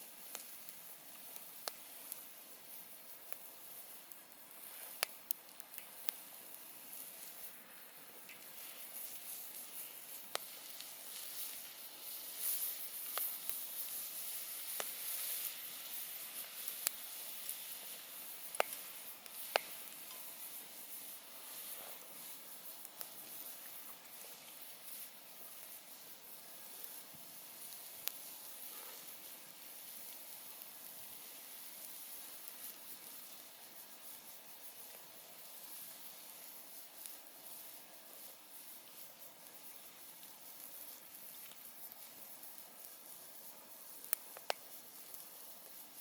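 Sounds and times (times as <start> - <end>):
campfire hissing: 0.0 - 46.0
sharp crackling pops: 0.0 - 46.0.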